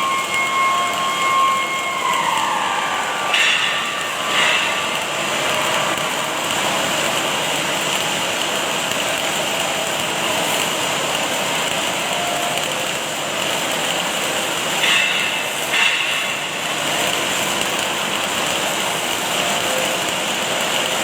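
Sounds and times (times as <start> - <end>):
welding machinery hiss: 0.0 - 21.0.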